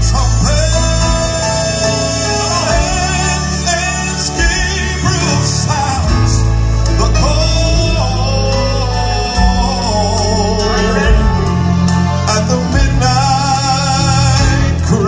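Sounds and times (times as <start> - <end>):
keyboard accompaniment: 0.0 - 15.0
man singing: 0.0 - 15.0.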